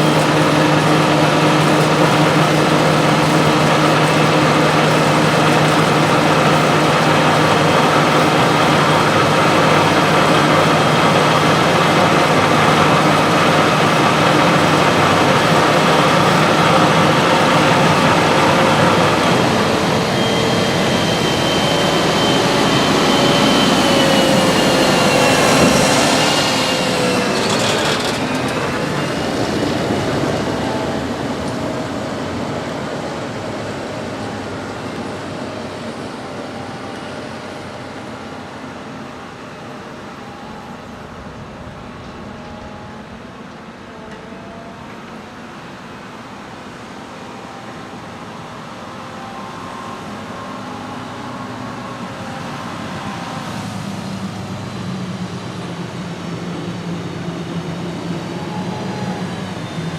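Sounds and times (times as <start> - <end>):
heavy machinery engines running: 0.0 - 59.9
machine whine passing by: 0.0 - 59.9.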